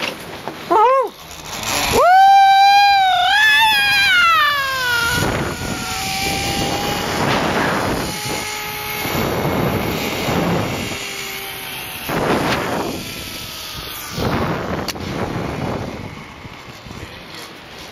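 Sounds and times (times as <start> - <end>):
zipline trolley on steel cable: 0.0 - 17.9
wind rushing over microphone: 1.5 - 17.9.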